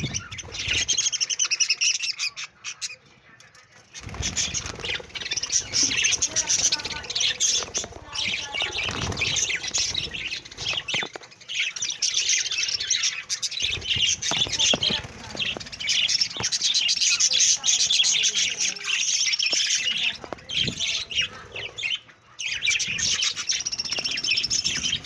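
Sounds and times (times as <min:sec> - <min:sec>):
budgerigars chattering and chirping: 0:00.0 - 0:25.0.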